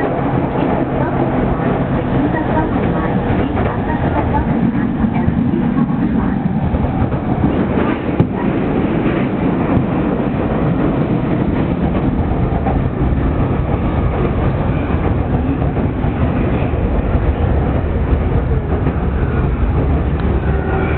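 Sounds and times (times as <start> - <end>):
train wheels rolling on rails: 0.0 - 20.9.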